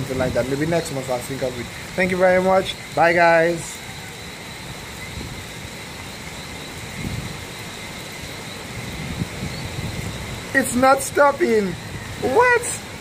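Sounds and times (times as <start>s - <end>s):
heavy rain: 0.0s - 13.0s
wind buffeting microphone: 0.0s - 13.0s.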